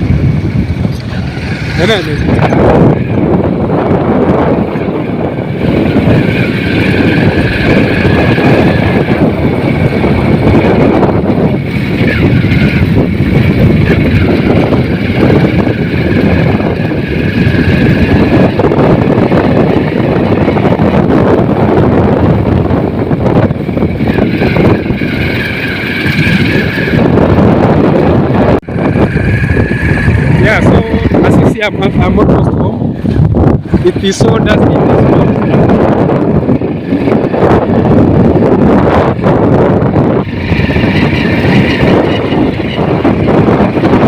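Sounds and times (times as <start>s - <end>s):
vehicle engine and road noise: 0.0s - 44.0s
wind buffeting microphone: 0.0s - 44.0s.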